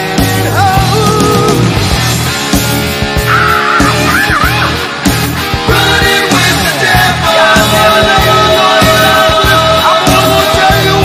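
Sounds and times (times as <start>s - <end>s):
loud rock music: 0.0s - 11.0s
steady drum beat: 0.0s - 11.0s.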